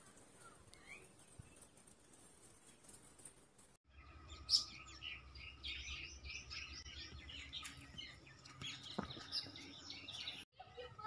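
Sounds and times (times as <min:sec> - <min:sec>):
birds chirping: 0:00.1 - 0:03.2, 0:03.9 - 0:11.0.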